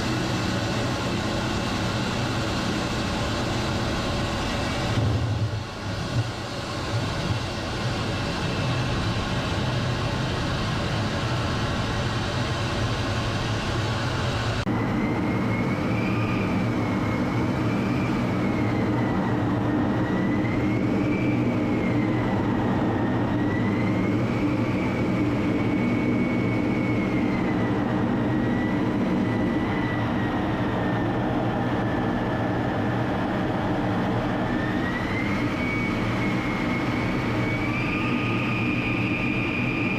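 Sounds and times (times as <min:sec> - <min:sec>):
high turbine whine: 0:00.0 - 0:39.9
jet engines running: 0:00.0 - 0:39.9.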